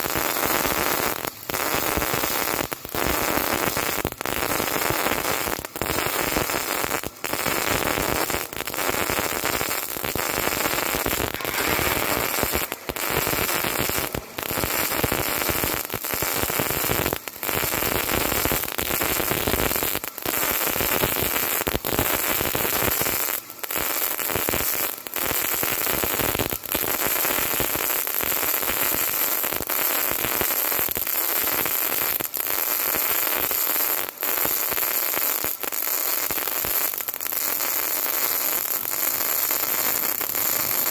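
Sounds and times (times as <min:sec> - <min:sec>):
welding arc crackling: 0:00.0 - 0:40.9.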